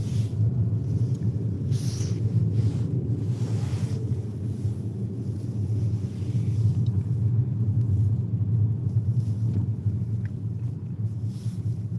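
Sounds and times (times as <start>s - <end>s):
car driving on highway: 0.0s - 11.9s.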